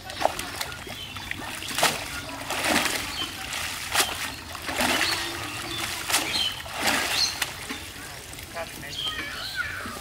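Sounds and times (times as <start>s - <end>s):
water splashing and streaming: 0.0s - 10.0s.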